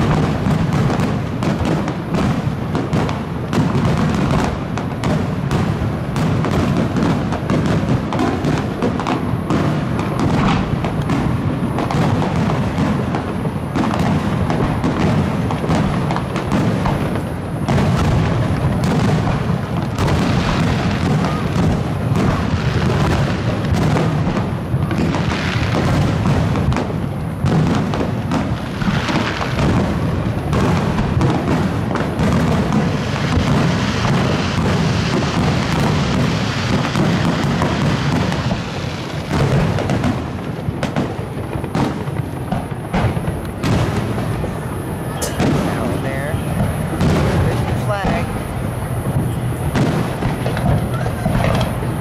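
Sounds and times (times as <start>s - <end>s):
fireworks booming barrage: 0.0s - 52.0s.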